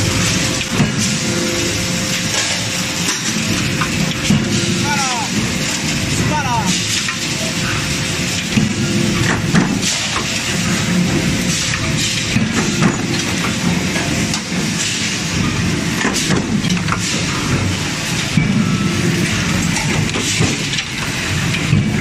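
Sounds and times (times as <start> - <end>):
machinery running din: 0.0 - 22.0.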